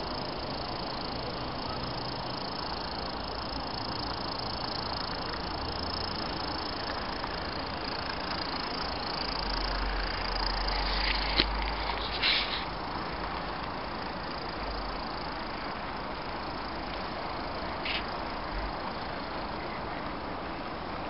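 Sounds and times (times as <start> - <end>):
model train rumbling on track: 0.0 - 21.0
steady hiss: 0.0 - 21.0.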